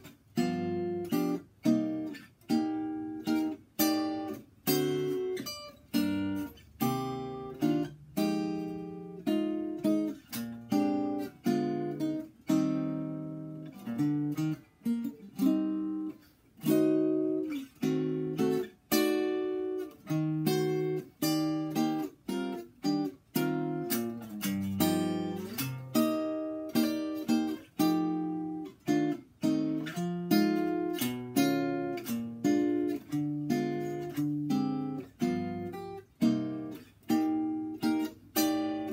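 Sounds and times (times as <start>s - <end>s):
acoustic guitar chords ringing: 0.0s - 38.9s.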